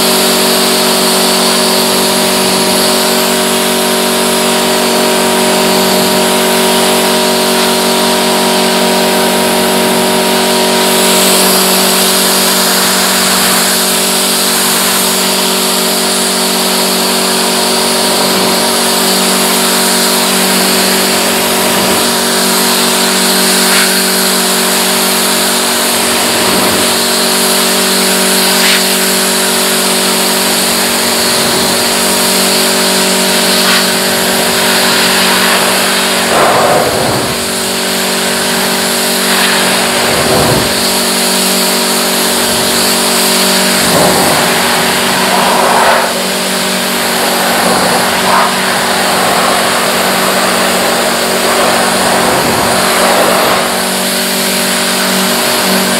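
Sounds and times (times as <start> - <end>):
pressure washer motor hum: 0.0 - 55.9
water spray hissing: 10.6 - 55.9.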